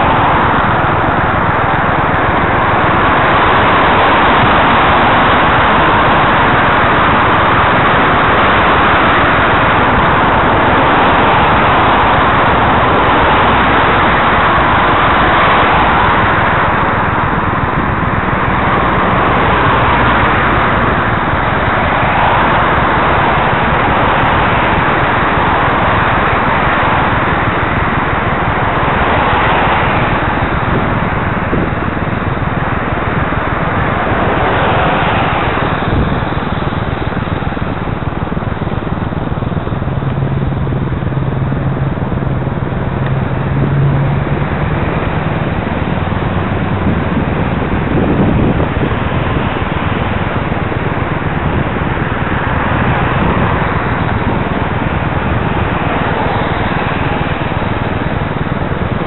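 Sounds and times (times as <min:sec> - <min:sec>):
cars passing on wet road: 0:00.0 - 0:59.0
low engine hum: 0:00.0 - 0:59.0.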